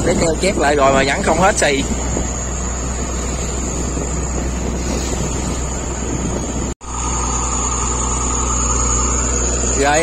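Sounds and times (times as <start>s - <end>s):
boat engine running: 0.0s - 10.0s
water rushing past hull: 0.0s - 10.0s
wind on microphone: 0.0s - 10.0s.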